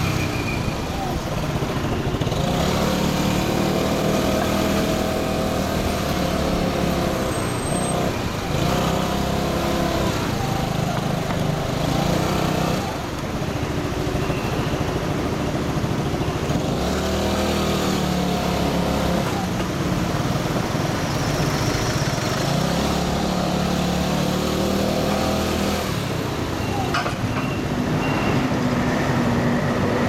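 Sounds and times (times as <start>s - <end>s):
motorcycle engine revving: 0.0s - 14.1s, 14.8s - 30.0s.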